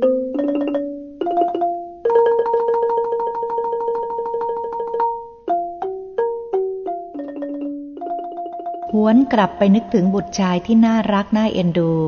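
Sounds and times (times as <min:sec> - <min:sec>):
struck pitched notes music: 0:00.0 - 0:10.6.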